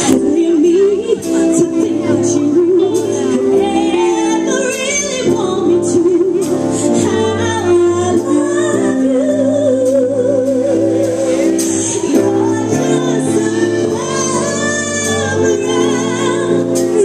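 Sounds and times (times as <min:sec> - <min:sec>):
band with keyboards bass and drums: 0:00.0 - 0:17.0
woman singing into a microphone: 0:00.0 - 0:17.0.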